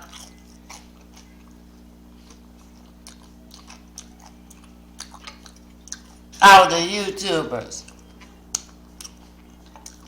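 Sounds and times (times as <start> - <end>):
person chewing food: 0.0 - 6.4, 7.8 - 10.0.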